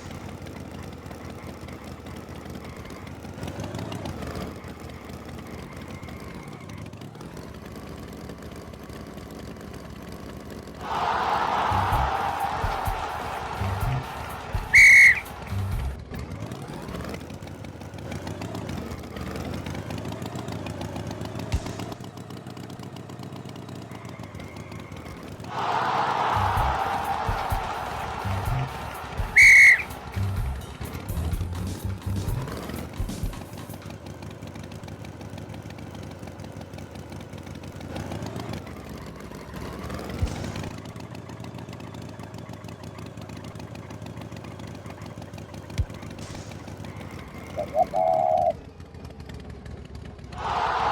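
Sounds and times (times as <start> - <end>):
cartoon tractor engine pulsing: 0.0 - 50.9.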